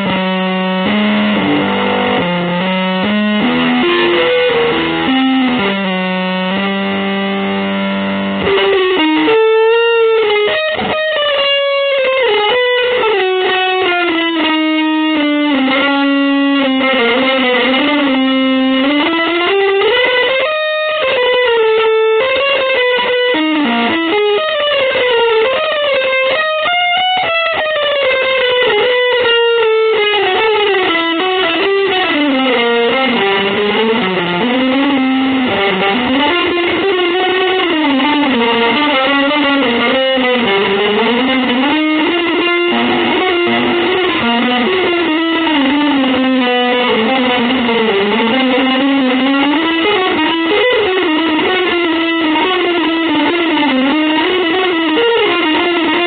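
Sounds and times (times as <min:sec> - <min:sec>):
electric guitar melody with bends: 0:00.0 - 0:56.0.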